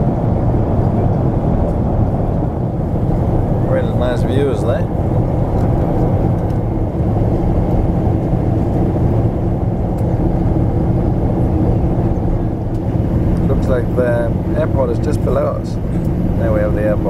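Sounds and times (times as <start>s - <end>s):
jet cabin engine drone: 0.0s - 17.0s.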